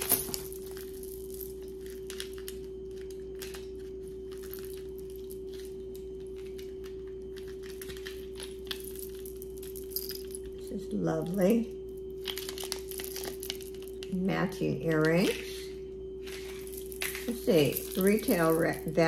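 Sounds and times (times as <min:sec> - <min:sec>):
jewellery clicking and clinking: 0:00.0 - 0:11.4, 0:12.2 - 0:14.2, 0:16.3 - 0:19.0
steady mid-pitched hum: 0:00.0 - 0:19.0.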